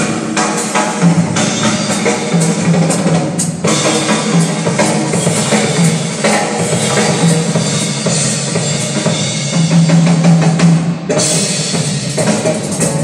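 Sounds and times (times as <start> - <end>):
drum-heavy music through subwoofers: 0.0 - 13.0.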